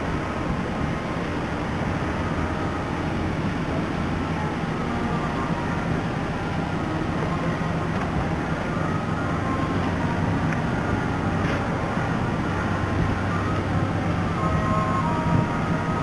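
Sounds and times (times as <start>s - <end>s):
hiss of wind and water: 0.0s - 16.0s
marine engine rumbling: 0.0s - 16.0s.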